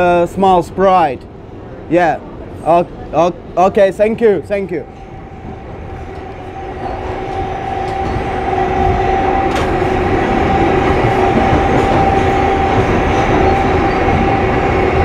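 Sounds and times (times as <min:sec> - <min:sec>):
subway train rumbling clatter: 0:00.0 - 0:15.0.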